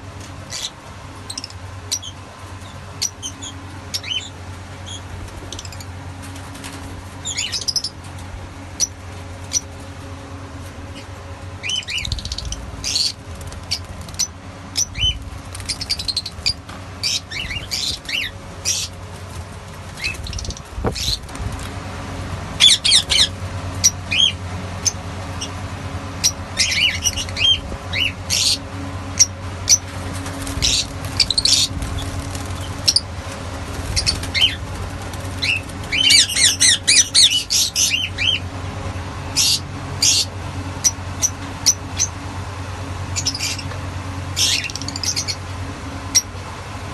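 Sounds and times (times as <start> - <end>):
steady low hum: 0.0 - 46.9
lovebirds chattering: 0.4 - 6.3, 7.2 - 9.9, 10.9 - 21.4, 22.6 - 38.6, 39.3 - 42.2, 43.1 - 45.5.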